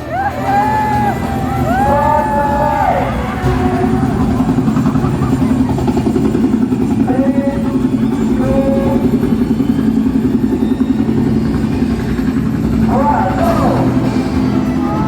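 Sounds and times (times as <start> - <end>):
motor running with fast pulse: 0.0 - 15.0.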